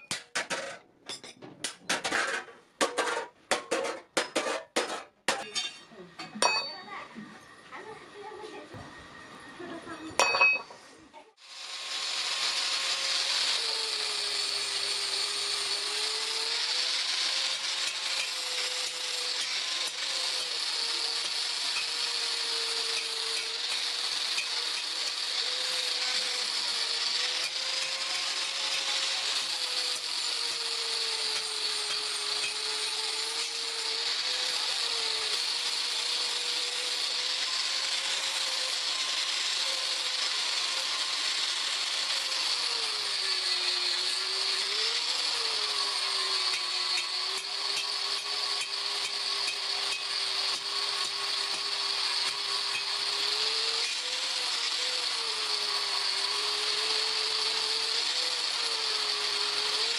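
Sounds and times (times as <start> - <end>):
electric power tool running: 11.4 - 59.9.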